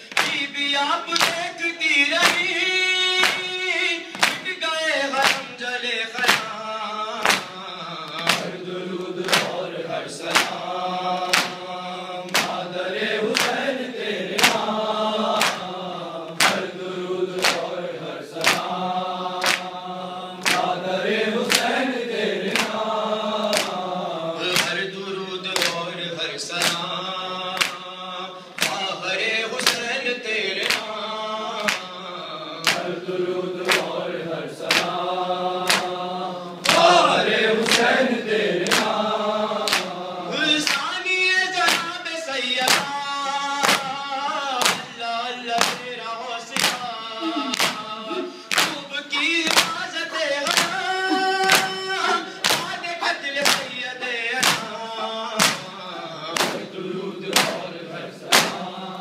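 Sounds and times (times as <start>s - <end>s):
men chanting in chorus: 0.0s - 59.0s.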